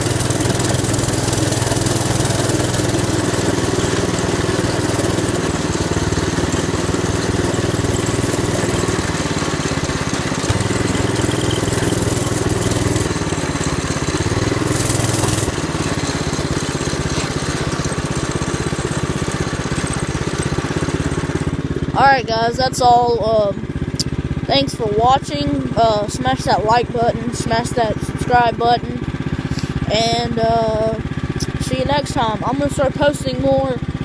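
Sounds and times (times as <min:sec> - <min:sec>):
small bike engine revving: 0:00.0 - 0:34.0.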